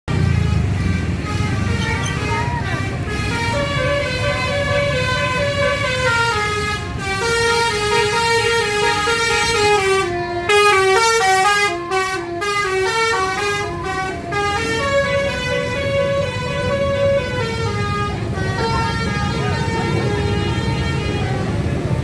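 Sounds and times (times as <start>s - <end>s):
musical bus horn playing a tune: 0.1s - 22.0s.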